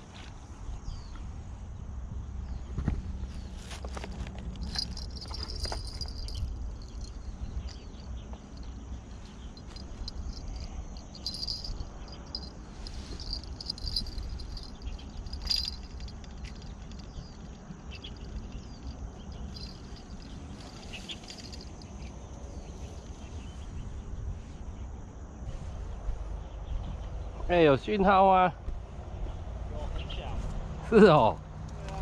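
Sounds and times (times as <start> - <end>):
insects chirping: 0.0 - 29.5.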